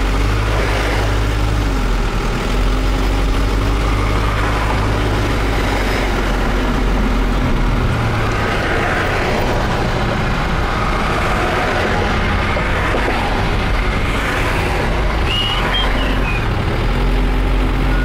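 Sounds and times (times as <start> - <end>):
truck engine hum: 0.0 - 18.0
tyre and road noise: 0.0 - 18.0.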